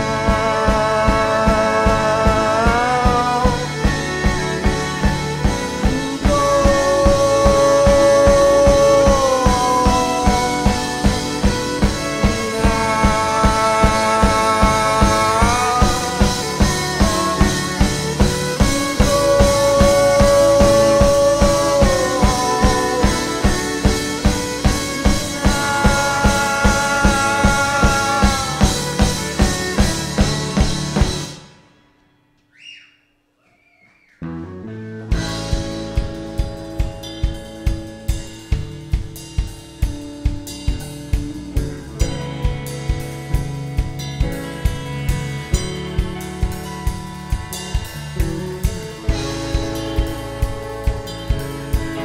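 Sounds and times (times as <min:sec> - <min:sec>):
drum kit beat: 0:00.0 - 0:31.6, 0:35.1 - 0:52.0
rock band playing: 0:00.0 - 0:31.9, 0:34.2 - 0:52.0.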